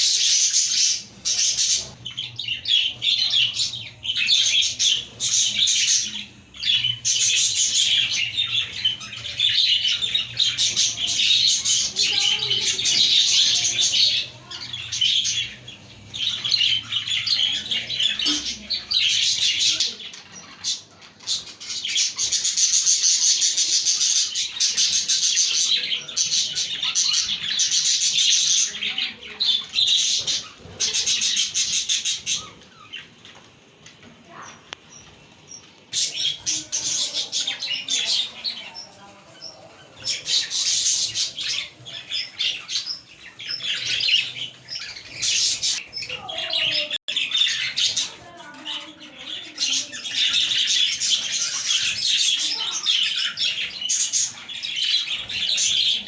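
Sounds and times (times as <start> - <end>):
budgies chattering and warbling: 0.0 - 56.0.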